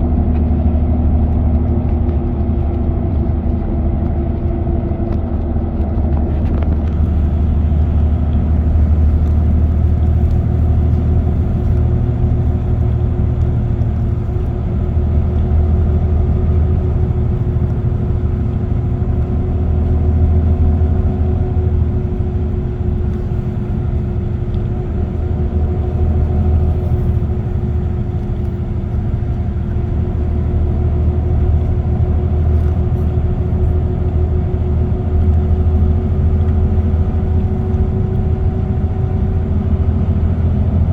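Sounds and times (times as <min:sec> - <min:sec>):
car cruising on expressway: 0:00.0 - 0:40.9.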